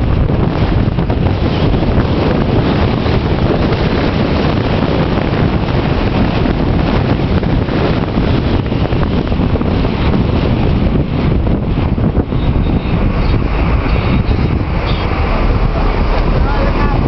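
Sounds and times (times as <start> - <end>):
car road noise: 0.0 - 17.0
wind buffeting microphone: 0.0 - 17.0.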